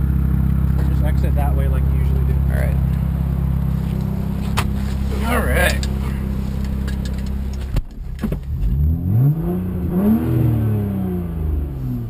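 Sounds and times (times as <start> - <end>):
car engine idling: 0.0 - 10.1
car engine revving: 0.0 - 12.0.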